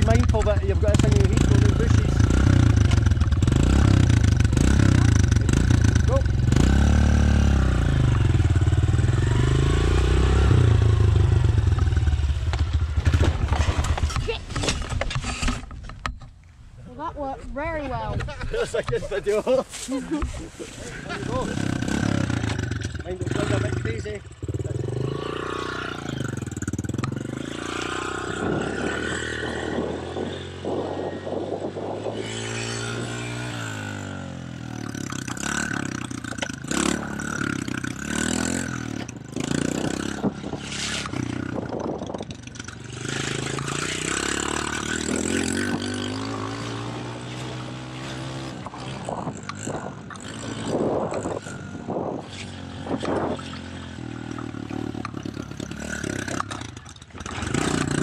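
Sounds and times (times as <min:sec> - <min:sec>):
motorbike engine revving: 0:00.0 - 0:15.7, 0:20.8 - 0:58.0.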